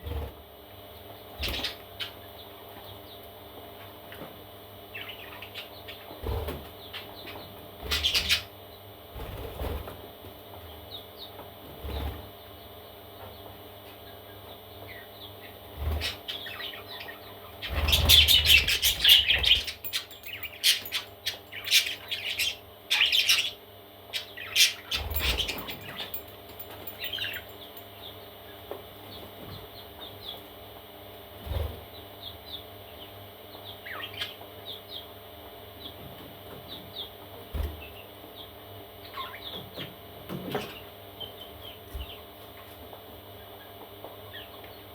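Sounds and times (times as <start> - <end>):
parrot chicks cheeping: 0.0 - 9.7, 10.5 - 44.9.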